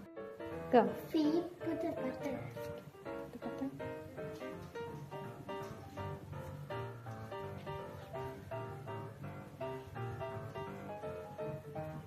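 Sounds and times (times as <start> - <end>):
light instrumental tune: 0.0 - 12.0.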